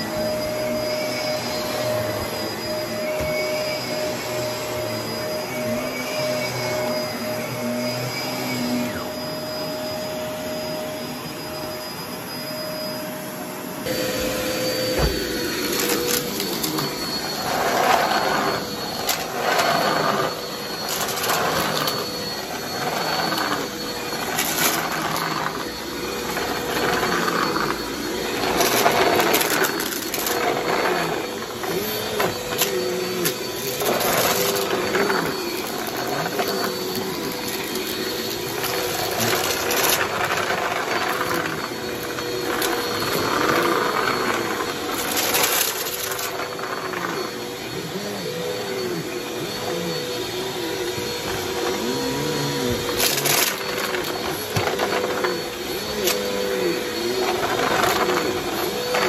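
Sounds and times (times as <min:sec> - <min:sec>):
vacuum motor whine: 0:00.0 - 0:59.0
vacuum surging over carpet: 0:00.0 - 0:59.0.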